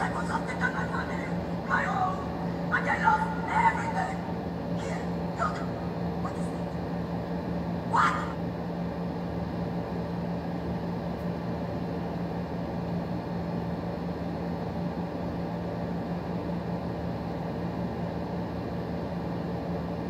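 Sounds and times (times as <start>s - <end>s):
low droning hum: 0.0s - 20.0s.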